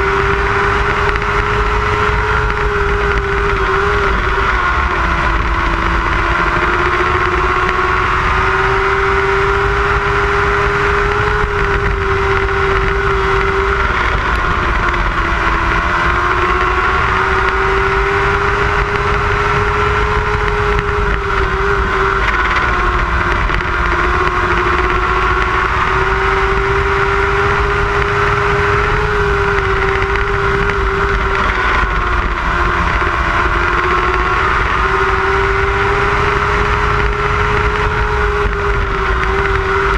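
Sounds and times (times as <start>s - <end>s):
race cars engines at speed: 0.0s - 39.9s.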